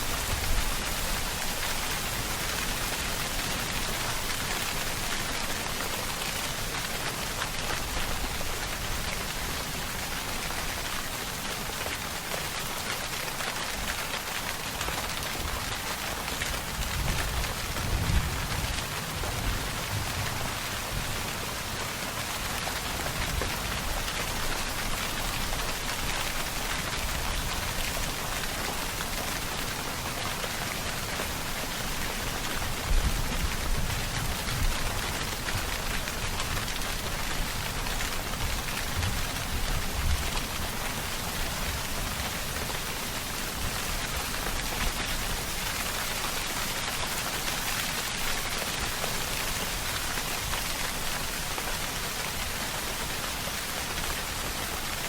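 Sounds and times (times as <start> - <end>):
dense rainfall hissing: 0.0 - 55.0.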